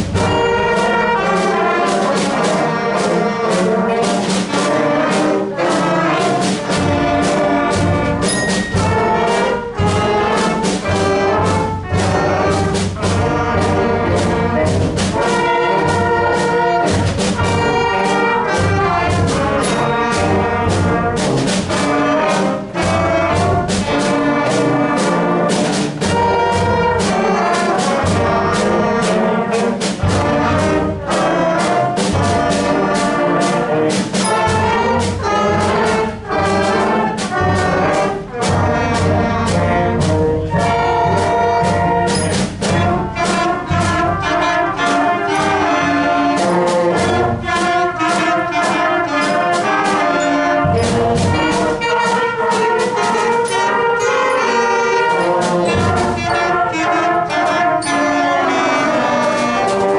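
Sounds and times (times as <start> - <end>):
school band playing jazz: 0.0 - 59.9.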